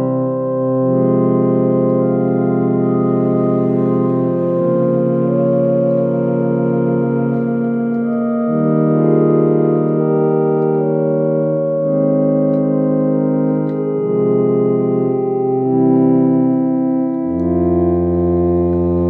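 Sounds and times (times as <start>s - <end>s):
organ playing hymn chords: 0.0s - 19.0s.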